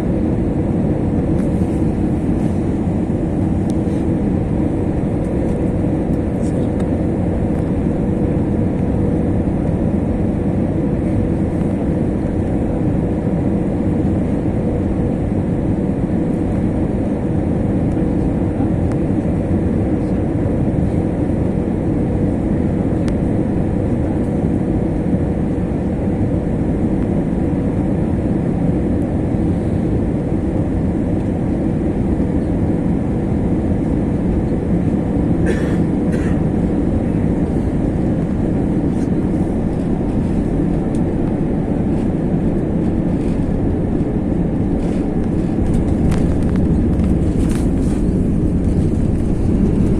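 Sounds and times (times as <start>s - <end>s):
aircraft engine rumble in cabin: 0.0s - 49.9s.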